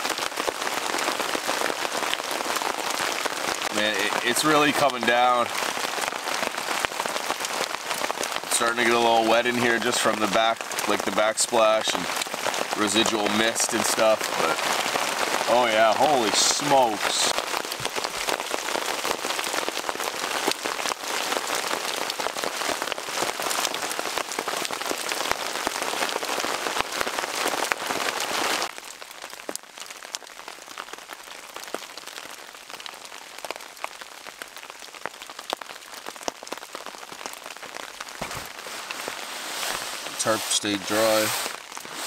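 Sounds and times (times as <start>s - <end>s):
heavy rain on a canvas tarp: 0.0s - 42.0s.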